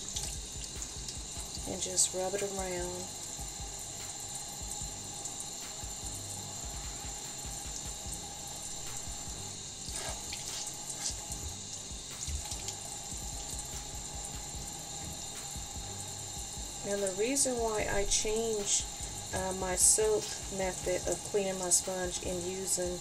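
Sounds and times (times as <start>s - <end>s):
tap water running into sink: 0.0s - 23.0s.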